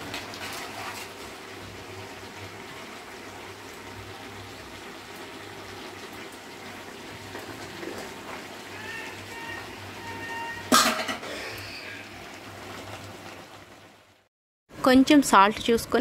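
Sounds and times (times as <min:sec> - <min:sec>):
curry simmering in a pot: 0:00.0 - 0:14.3.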